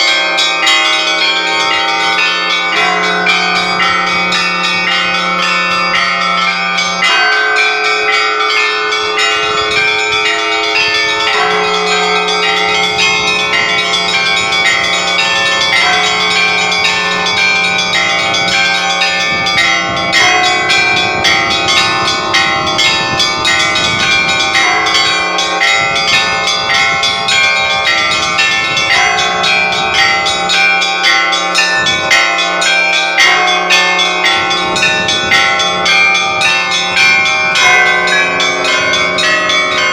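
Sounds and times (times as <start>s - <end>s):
deep bell ringing: 0.0s - 39.9s
small high church bells: 0.0s - 39.9s.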